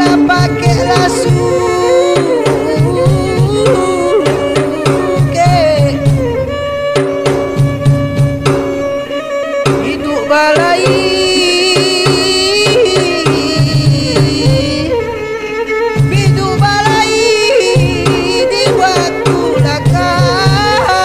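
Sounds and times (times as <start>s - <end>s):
steady drum beat: 0.0s - 21.0s
wavering melody: 0.0s - 21.0s.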